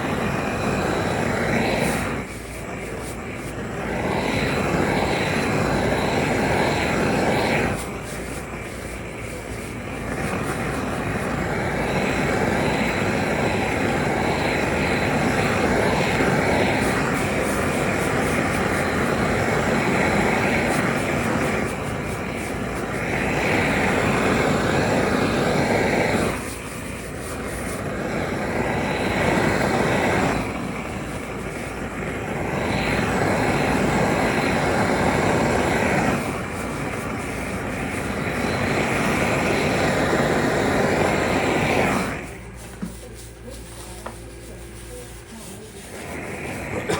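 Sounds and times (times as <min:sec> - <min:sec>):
workshop machinery roaring: 0:00.0 - 0:46.9.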